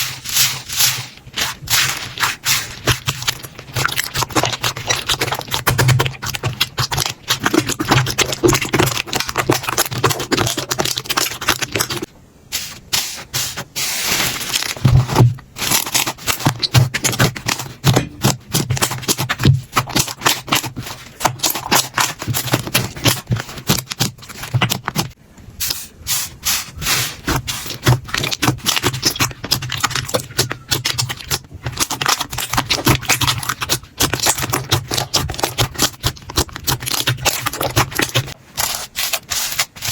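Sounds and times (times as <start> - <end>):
slime crackling and popping: 0.1 - 12.1, 14.1 - 25.2, 27.3 - 39.9.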